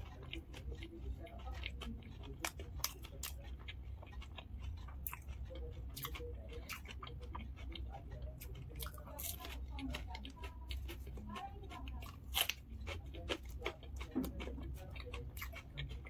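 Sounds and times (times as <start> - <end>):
crunchy food chewing: 0.0 - 16.0.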